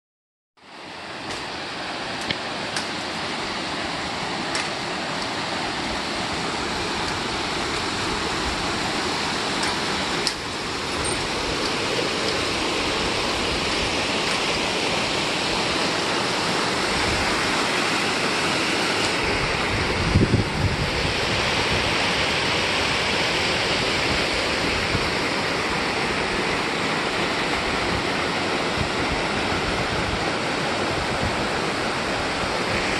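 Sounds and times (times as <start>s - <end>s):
river rapids rushing over rocks: 0.6s - 32.9s.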